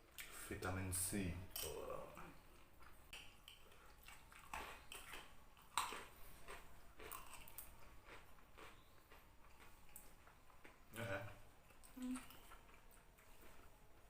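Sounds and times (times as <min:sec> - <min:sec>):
chewing: 0:01.5 - 0:10.9, 0:11.6 - 0:14.0.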